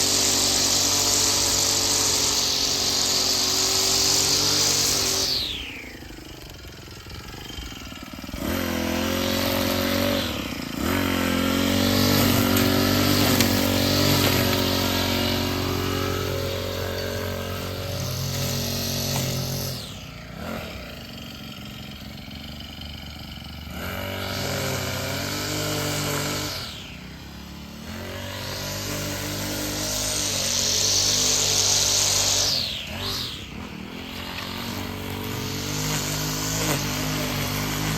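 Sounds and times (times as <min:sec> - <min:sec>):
small petrol engine revving: 0:00.0 - 0:37.9.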